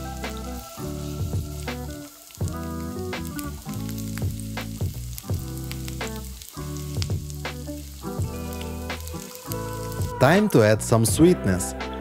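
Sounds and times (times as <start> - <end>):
onion and bacon sizzling in pan: 0.0 - 10.8
background music: 0.0 - 12.0.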